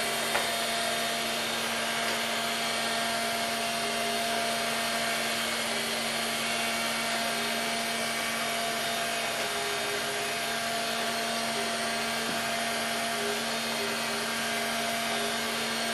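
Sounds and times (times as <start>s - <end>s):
robot vacuum cleaner running: 0.0s - 15.9s.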